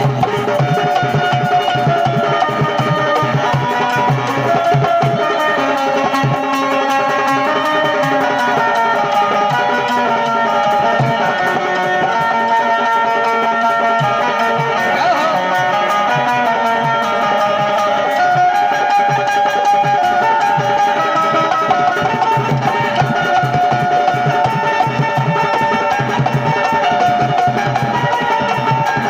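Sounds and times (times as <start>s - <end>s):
hand drum rhythm: 0.0s - 29.0s
sustained melody line: 0.0s - 29.0s.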